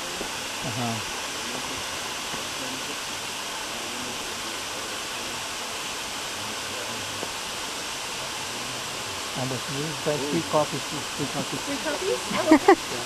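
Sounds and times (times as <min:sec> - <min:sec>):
faint indistinct voices: 0:00.0 - 0:13.0
waterfall rushing: 0:00.0 - 0:13.0.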